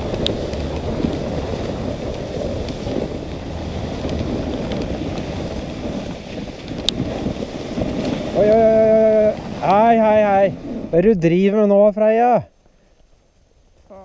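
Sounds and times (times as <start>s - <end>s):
wind on microphone: 0.0s - 11.4s
sled runners scraping on snow: 0.0s - 11.7s
faint sled clicks: 0.0s - 14.0s.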